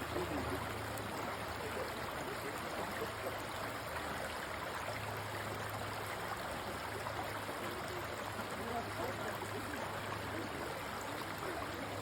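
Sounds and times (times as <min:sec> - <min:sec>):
stream flowing over stones: 0:00.0 - 0:12.0.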